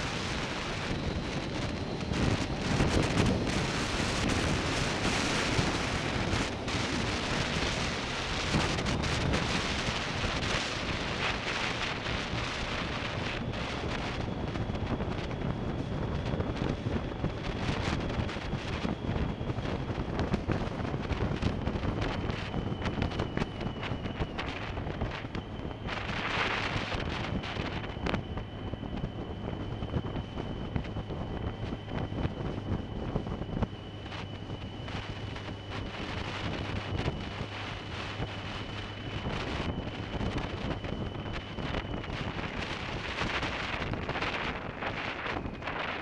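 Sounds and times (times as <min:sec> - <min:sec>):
faint high whine: 0:00.0 - 0:46.0
wind rushing over microphone: 0:00.0 - 0:46.0.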